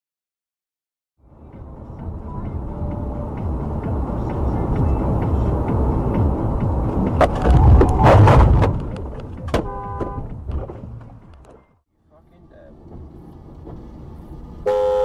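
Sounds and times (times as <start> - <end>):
car road and engine rumble: 1.2 - 15.0.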